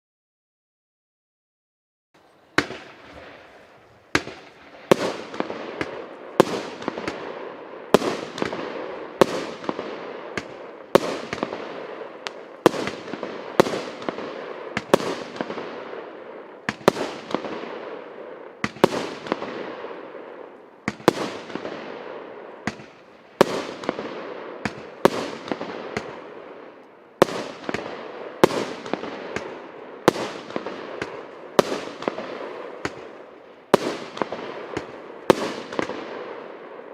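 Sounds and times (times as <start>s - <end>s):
hissing crackling firework tails: 2.2s - 36.9s.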